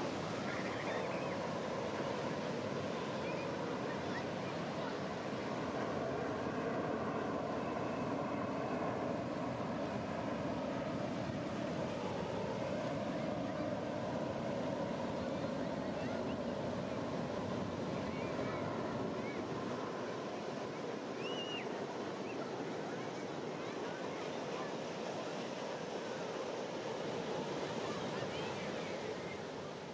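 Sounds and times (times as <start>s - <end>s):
wind: 0.0s - 29.9s.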